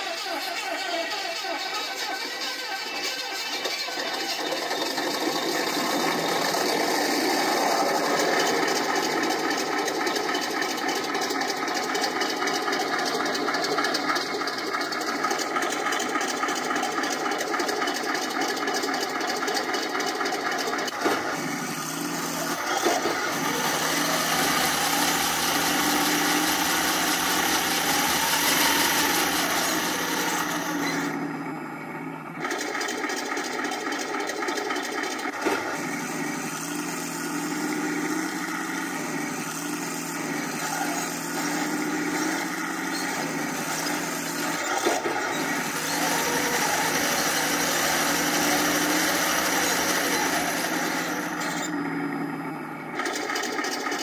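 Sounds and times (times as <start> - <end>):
diesel engine sound from loudspeaker: 0.0 - 54.0.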